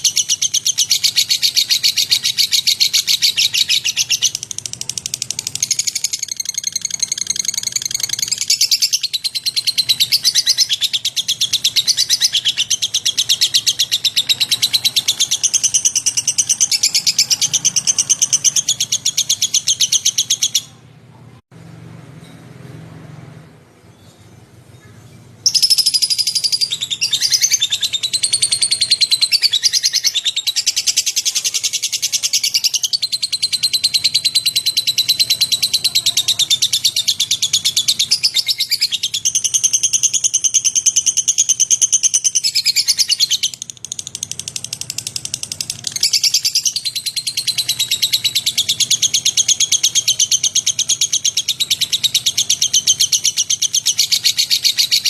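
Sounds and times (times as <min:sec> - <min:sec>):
bird chattering trill: 0:00.0 - 0:20.8, 0:24.8 - 0:55.0.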